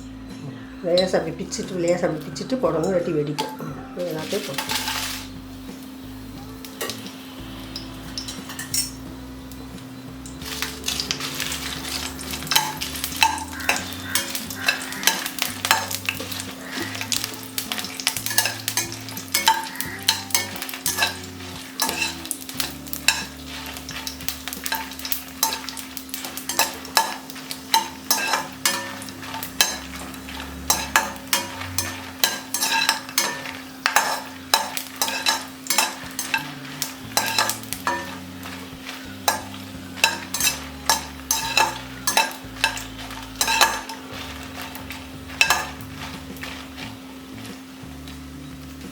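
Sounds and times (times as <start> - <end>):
chillies sizzling in oil: 0.0 - 48.9
spoon scraping pan: 0.8 - 6.0, 6.6 - 48.2.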